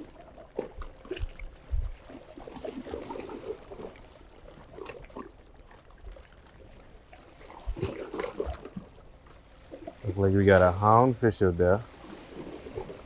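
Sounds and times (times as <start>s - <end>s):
water splashes: 0.0s - 13.0s.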